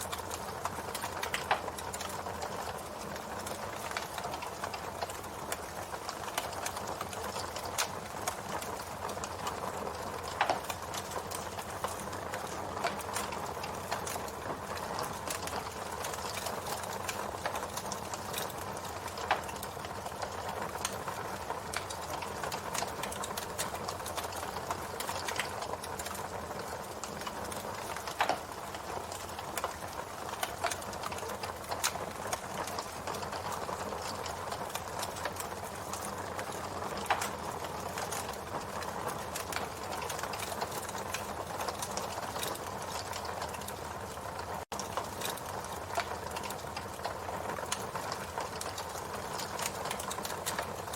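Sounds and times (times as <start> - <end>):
campfire crackling and hissing: 0.0 - 50.9.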